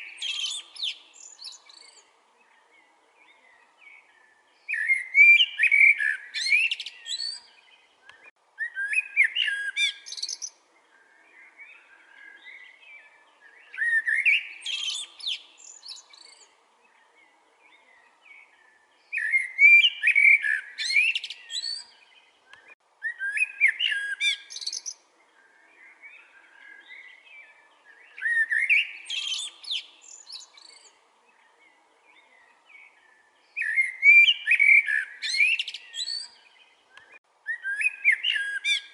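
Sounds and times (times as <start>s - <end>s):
blackbird singing: 0.0s - 38.9s.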